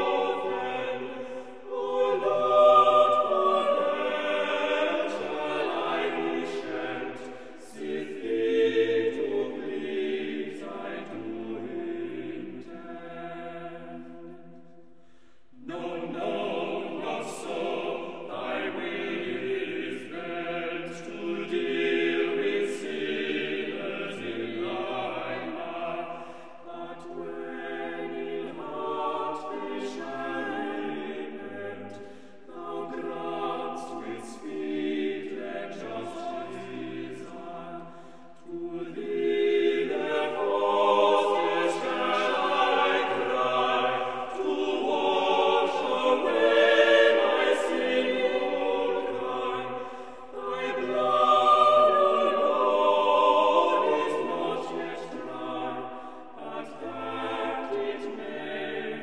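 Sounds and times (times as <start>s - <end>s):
choir singing held chords: 0.0s - 59.0s.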